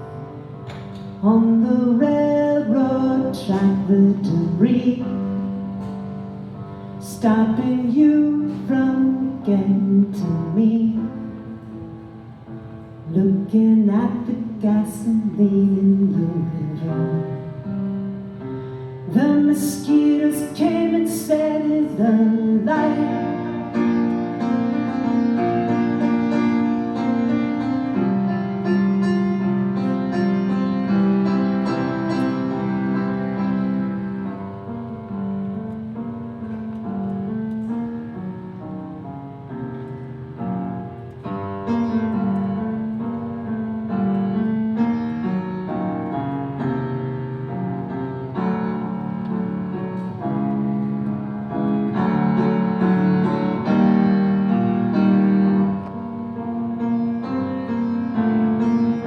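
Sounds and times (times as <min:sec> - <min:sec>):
piano: 0:00.0 - 0:59.0.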